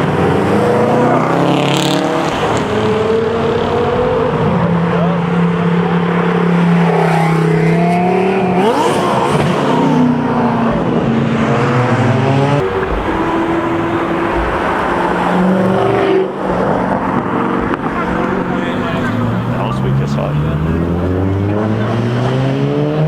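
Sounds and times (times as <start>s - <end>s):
sports car engine revving: 0.0s - 23.0s.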